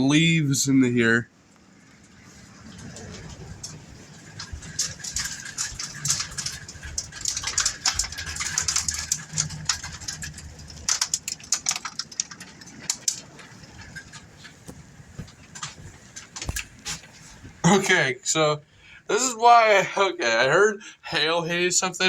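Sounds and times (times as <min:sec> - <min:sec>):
hail hitting door and windows: 0:01.5 - 0:19.9.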